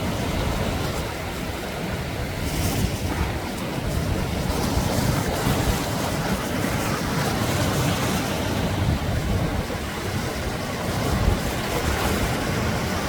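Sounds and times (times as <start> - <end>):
sea waves breaking on a beach: 0.0 - 13.0.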